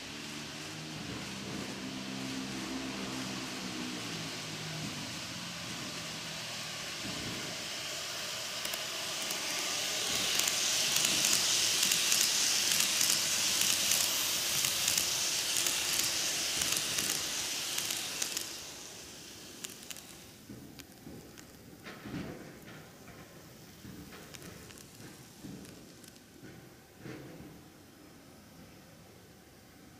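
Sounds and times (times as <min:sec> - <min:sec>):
model train wheels rolling on rails: 0:00.0 - 0:29.9.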